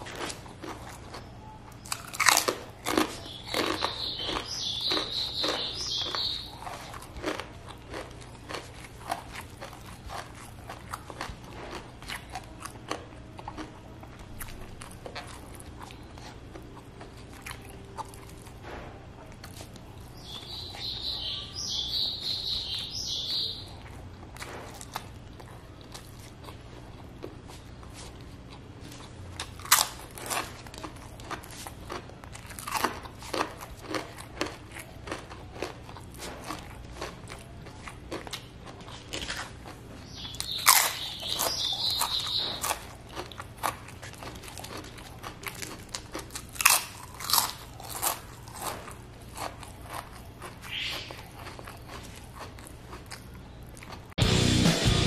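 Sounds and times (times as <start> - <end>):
chewing and crunching food: 0.0 - 54.2.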